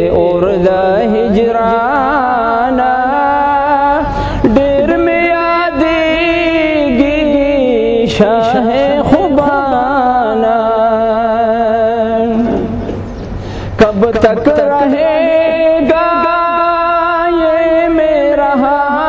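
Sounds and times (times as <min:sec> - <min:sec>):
man chanting: 0:00.0 - 0:12.8, 0:13.8 - 0:19.0.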